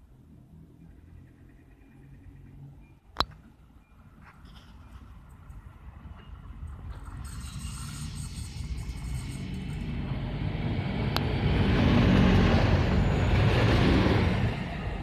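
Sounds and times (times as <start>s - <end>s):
diesel railcar passing: 0.0s - 15.0s.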